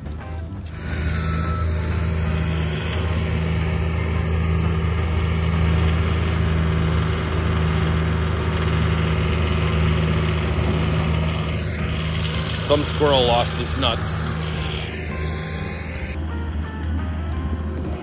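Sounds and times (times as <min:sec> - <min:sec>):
diesel engine idling: 0:00.6 - 0:18.0.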